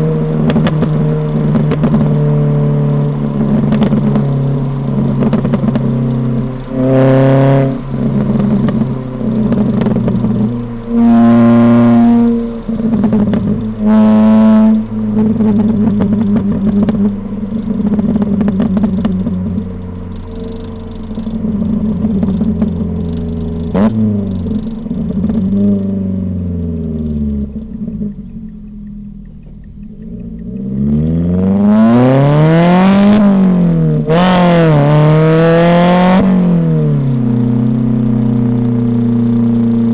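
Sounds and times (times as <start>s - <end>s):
car engine accelerating: 0.0s - 39.9s
car exhaust throttle bursts: 0.0s - 39.9s.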